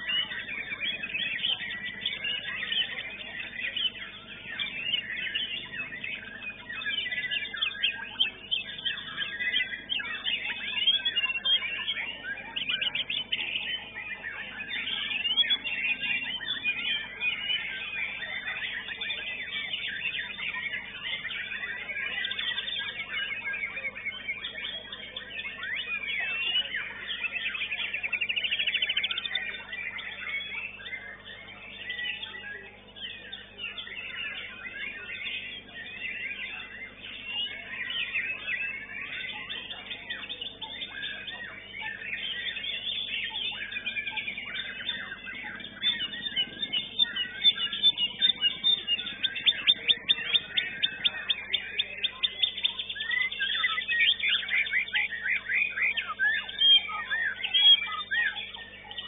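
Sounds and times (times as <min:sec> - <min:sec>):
bird singing chirps and whistles: 0:00.0 - 0:59.0
other birds singing: 0:00.0 - 0:59.0.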